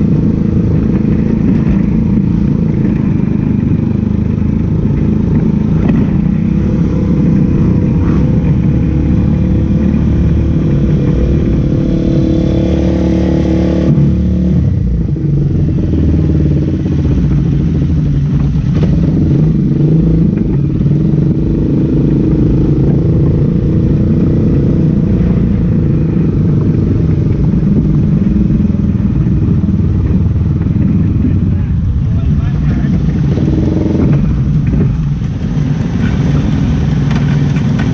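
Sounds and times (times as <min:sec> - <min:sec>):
race car engine running hard: 0:00.0 - 0:37.9.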